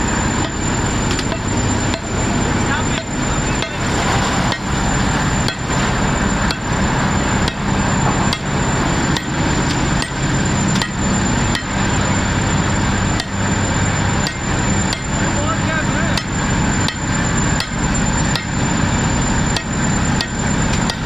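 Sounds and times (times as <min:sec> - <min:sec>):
heavy machinery humming: 0:00.0 - 0:21.0.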